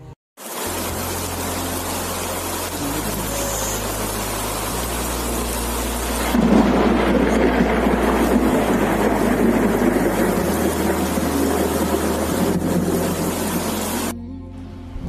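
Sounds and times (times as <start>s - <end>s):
heavy rain pouring: 0.4s - 14.2s
deep rumble: 0.9s - 15.0s.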